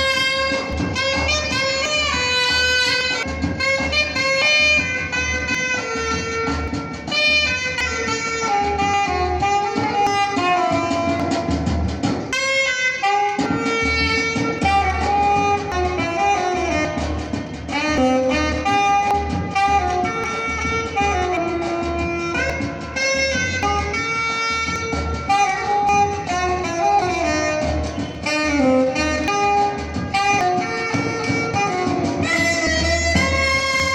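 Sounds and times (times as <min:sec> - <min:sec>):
saxophone melody: 0:00.0 - 0:33.9
steady drum beat: 0:00.0 - 0:33.9.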